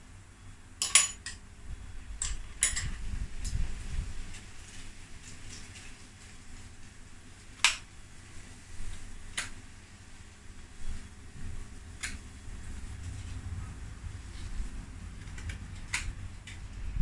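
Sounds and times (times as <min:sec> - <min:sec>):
low steady rumble: 0:00.0 - 0:05.1, 0:08.0 - 0:17.0.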